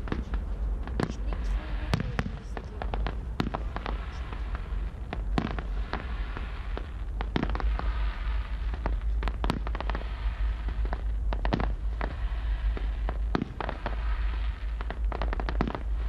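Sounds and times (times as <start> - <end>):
fireworks crackling: 0.0 - 16.0
low rumble: 0.0 - 16.0.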